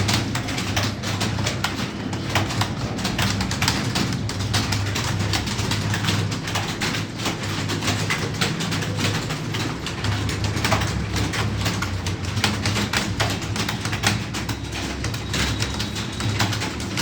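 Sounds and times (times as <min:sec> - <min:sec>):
keyboard keys clicking: 0:00.0 - 0:17.0.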